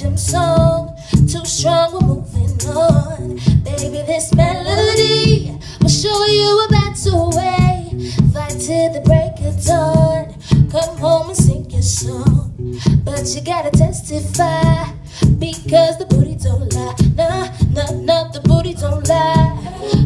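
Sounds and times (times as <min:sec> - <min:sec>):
bass: 0:00.0 - 0:20.0
steady drum beat: 0:00.0 - 0:20.0
women singing pop song: 0:00.0 - 0:20.0.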